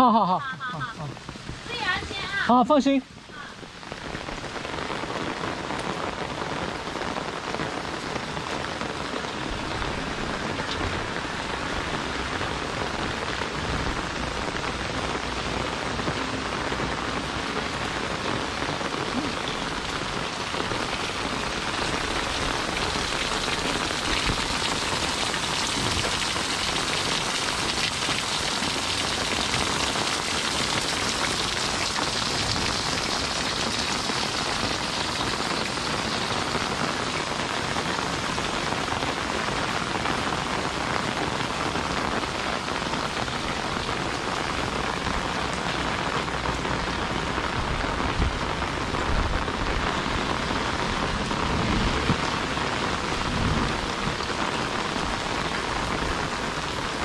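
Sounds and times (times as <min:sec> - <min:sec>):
heavy rain on an umbrella: 0:00.0 - 0:57.0.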